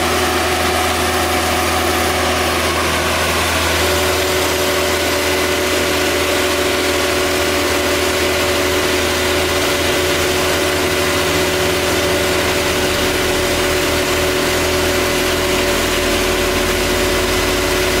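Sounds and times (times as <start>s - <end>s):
truck engine and hydraulic whine: 0.0s - 18.0s.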